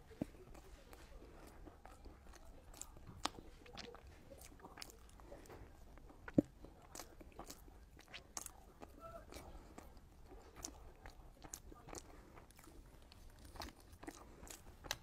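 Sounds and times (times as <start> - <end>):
chewing with mouth clicks: 0.0 - 15.0.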